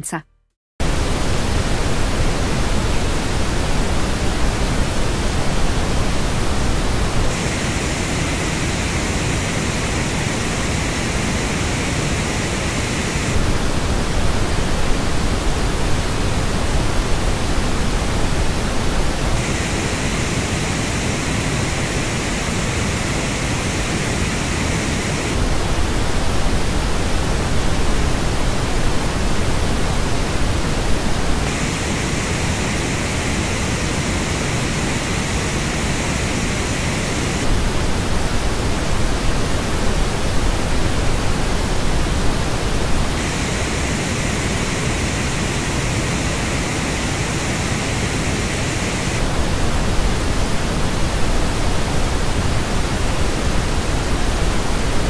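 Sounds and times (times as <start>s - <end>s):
steady pink noise: 0.8s - 55.0s.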